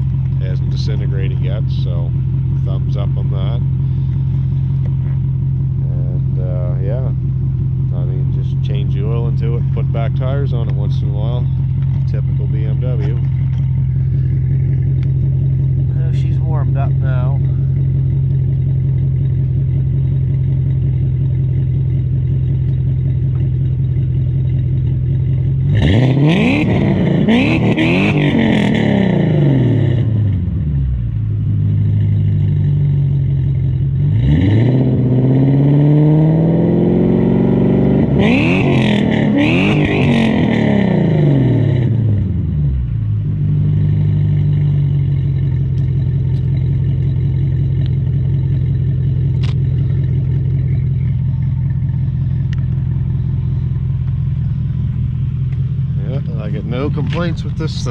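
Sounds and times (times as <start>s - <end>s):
car engine idling and revving: 0.0s - 57.9s.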